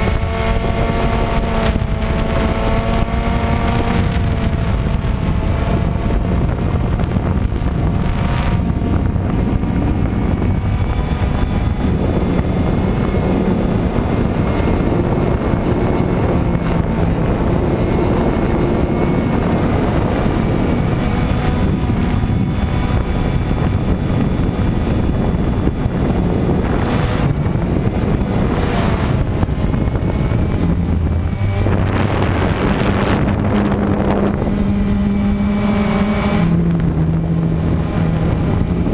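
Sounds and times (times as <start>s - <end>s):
drone motors and propellers: 0.0s - 38.9s
wind buffeting microphone: 0.0s - 38.9s.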